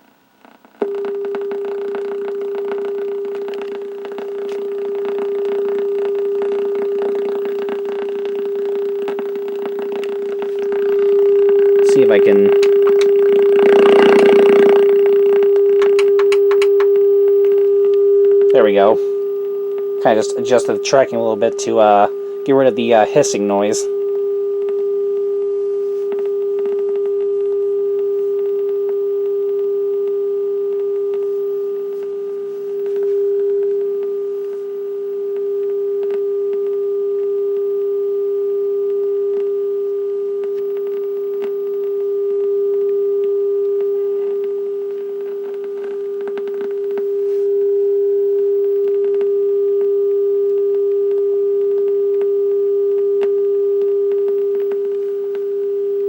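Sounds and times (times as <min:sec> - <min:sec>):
low-pitched droning tone: 0:00.7 - 0:56.0.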